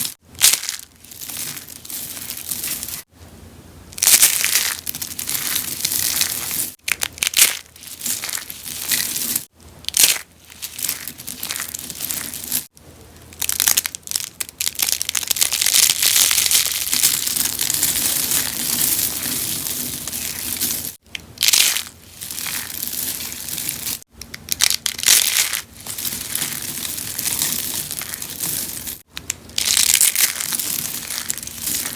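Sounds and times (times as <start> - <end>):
soap crunching and crackling: 4.0 - 12.7, 13.4 - 31.9.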